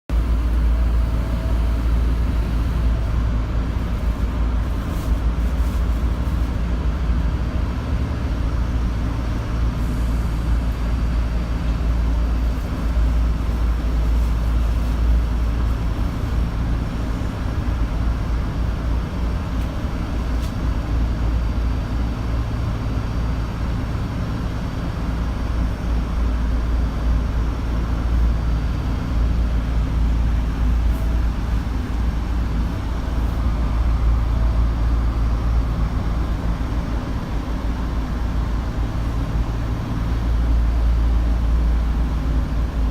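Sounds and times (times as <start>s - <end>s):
subway train rumbling: 0.1s - 42.9s.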